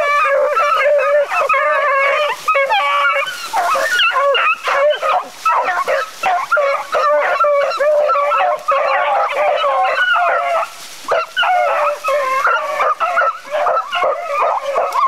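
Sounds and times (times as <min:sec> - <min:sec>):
dogs baying in chorus: 0:00.0 - 0:15.0.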